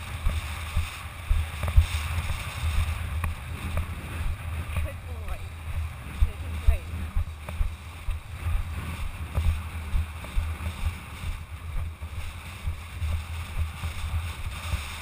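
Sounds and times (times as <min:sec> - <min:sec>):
low rumble on microphone: 0:00.0 - 0:15.0.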